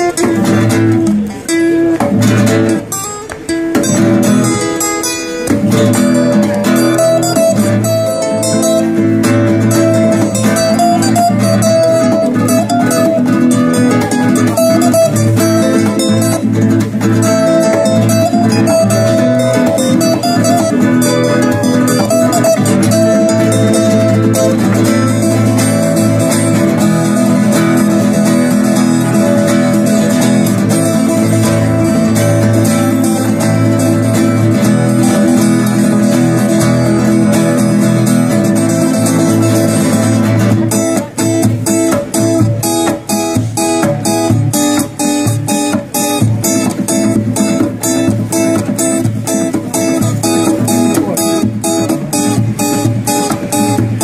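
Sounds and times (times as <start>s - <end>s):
acoustic guitars playing: 0.0s - 54.0s.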